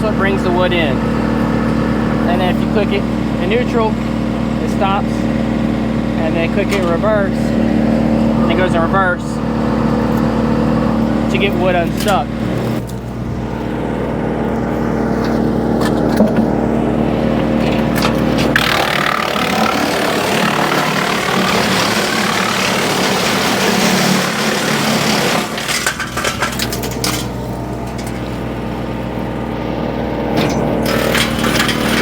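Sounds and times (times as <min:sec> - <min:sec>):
brush grinding in chipper: 0:00.0 - 0:32.0
wood chipper humming: 0:00.0 - 0:32.0.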